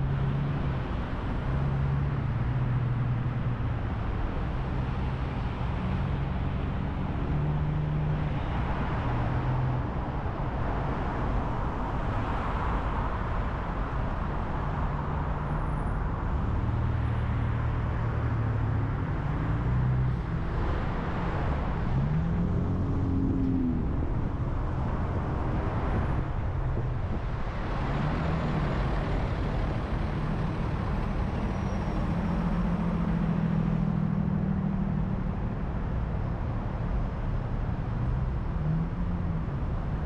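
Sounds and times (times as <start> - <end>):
car road and tyre noise: 0.0 - 40.0
low engine hum: 0.0 - 40.0
vehicles passing close by: 0.0 - 40.0.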